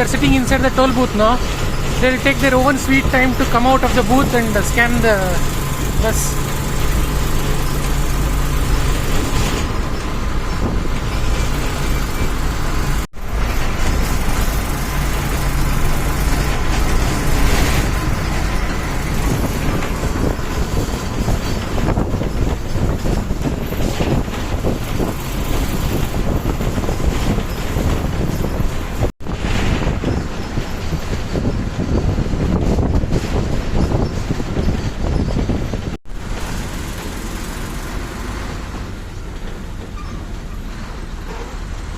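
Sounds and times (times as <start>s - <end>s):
bus engine and road noise: 0.0s - 41.9s.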